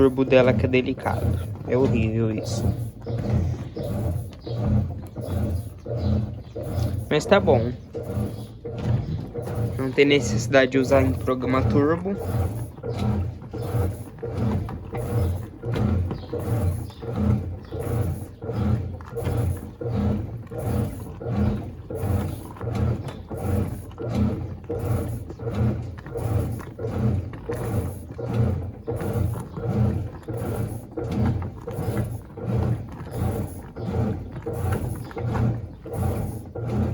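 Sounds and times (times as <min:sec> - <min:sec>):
washing machine agitating: 0:00.0 - 0:36.9.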